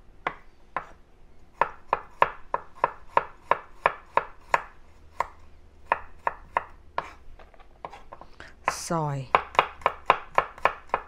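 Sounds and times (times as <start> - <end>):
knife chopping on wooden board: 0.2 - 1.0, 1.6 - 11.0.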